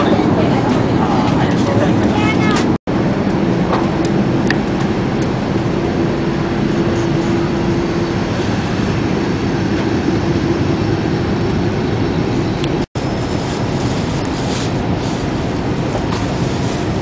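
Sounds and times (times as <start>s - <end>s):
airplane cabin noise: 0.0s - 17.0s
steady hum: 0.0s - 17.0s.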